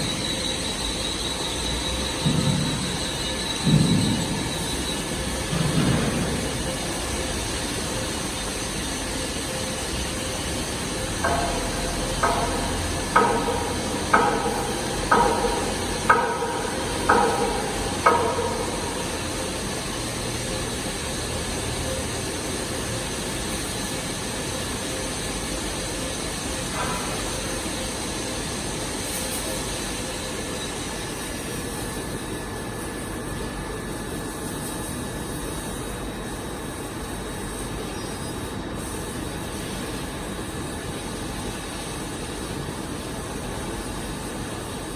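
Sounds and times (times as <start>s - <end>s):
machine shop hum and hiss: 0.0s - 44.9s.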